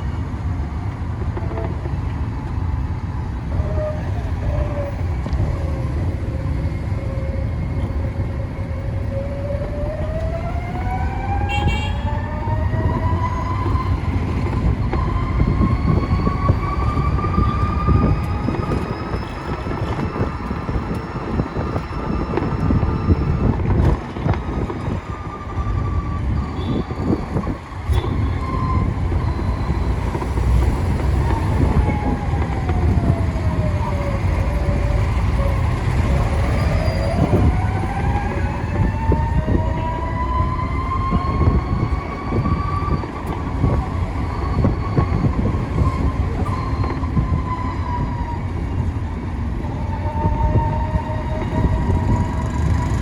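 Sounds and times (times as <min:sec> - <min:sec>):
engine whine: 0:00.0 - 0:53.0
vehicle rumble: 0:00.0 - 0:53.0.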